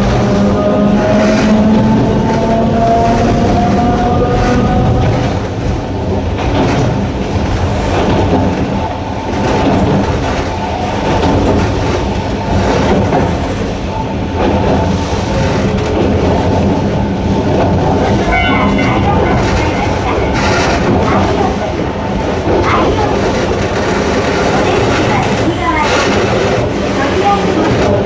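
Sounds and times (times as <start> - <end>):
train wheels clicking over rail joints: 0.0 - 28.0.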